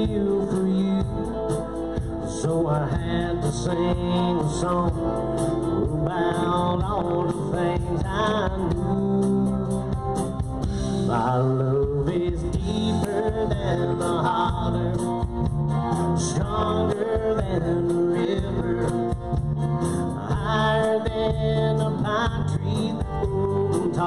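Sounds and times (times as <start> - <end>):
guitar bending melody: 0.0 - 24.0
live country band playing: 0.0 - 24.0.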